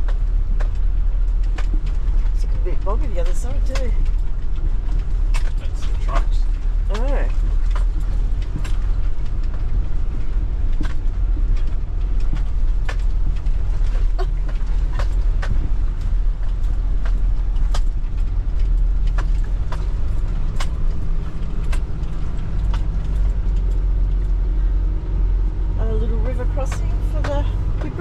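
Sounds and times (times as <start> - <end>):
knocks and rattles of vehicle: 0.0 - 28.0
truck engine under load: 0.0 - 28.0.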